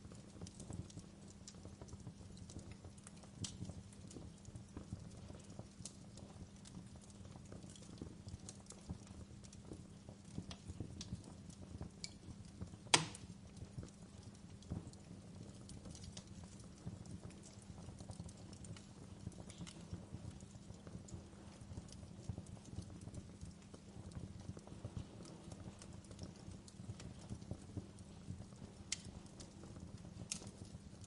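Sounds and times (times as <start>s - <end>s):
low rumble of flame: 0.0s - 31.0s
wood fire crackling: 0.0s - 31.0s.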